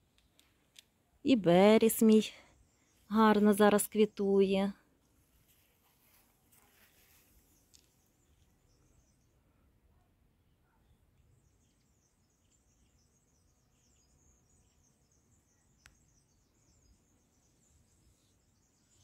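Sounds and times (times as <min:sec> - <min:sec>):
distant birds twittering: 0:00.0 - 0:04.6, 0:06.8 - 0:19.0.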